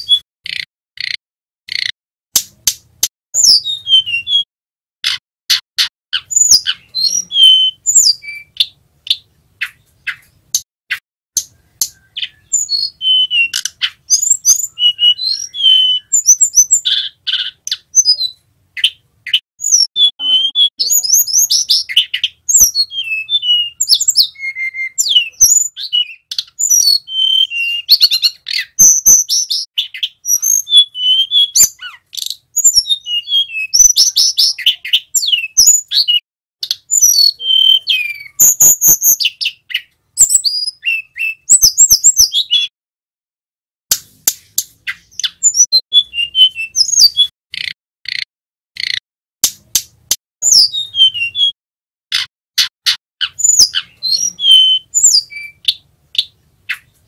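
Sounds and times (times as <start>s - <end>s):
bird singing whistles and trills: 0.0s - 1.9s, 3.4s - 4.5s, 5.1s - 42.7s, 44.9s - 48.2s, 50.4s - 51.6s, 52.2s - 57.0s.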